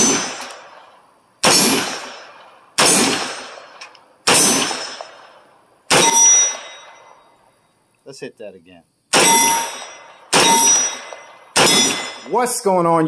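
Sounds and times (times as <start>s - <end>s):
gunshots with ringing tail: 0.0s - 7.4s, 9.1s - 12.8s.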